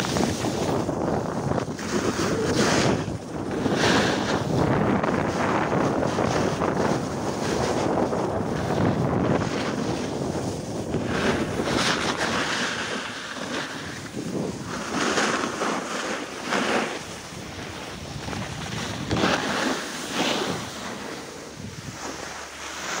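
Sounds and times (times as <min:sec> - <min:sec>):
skis scraping over snow: 0:00.0 - 0:23.0
wind on microphone: 0:00.0 - 0:23.0.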